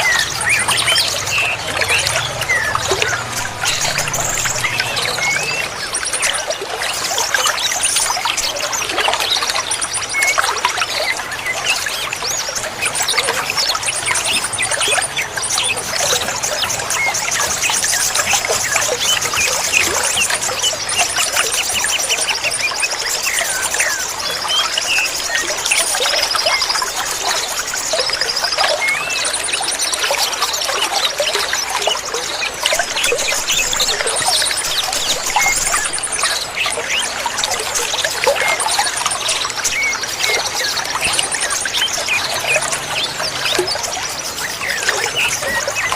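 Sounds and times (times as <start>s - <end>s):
small birds chirping: 0.0s - 45.9s
trickling water: 0.0s - 45.9s.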